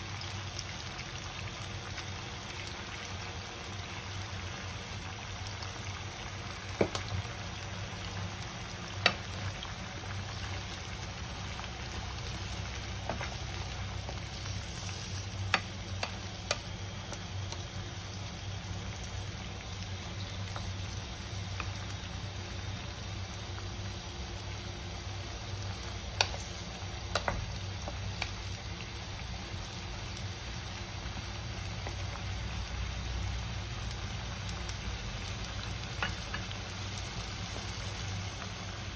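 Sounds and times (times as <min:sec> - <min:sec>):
meat sizzling in a pan: 0:00.0 - 0:38.9.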